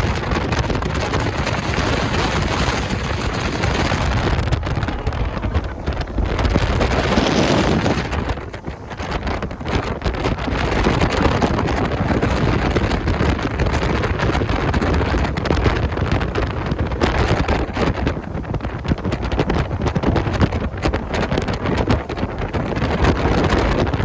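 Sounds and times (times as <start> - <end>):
boat running noise: 0.0 - 24.0
wind buffeting microphone: 0.0 - 24.0.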